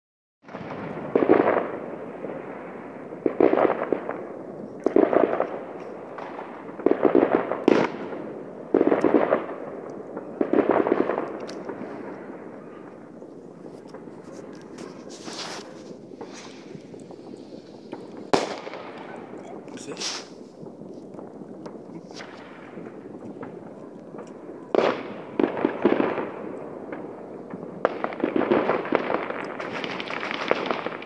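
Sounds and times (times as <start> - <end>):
fireworks crackling bangs: 0.4 - 31.0.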